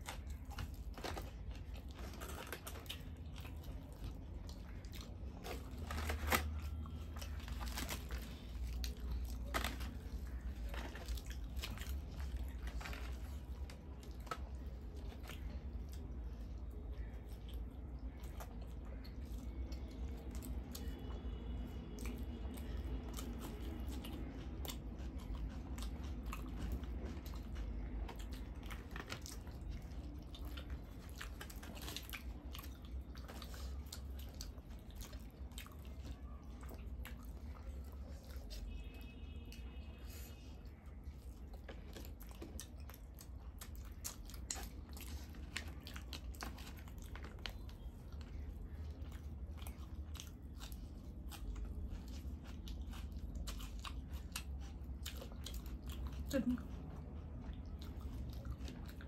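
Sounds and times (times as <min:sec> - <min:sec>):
people chewing food: 0:00.0 - 0:59.0.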